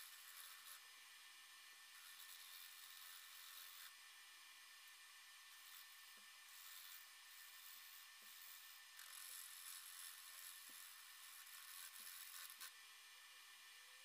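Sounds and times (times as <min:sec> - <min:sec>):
tool cutting wood hiss: 0:00.0 - 0:14.0.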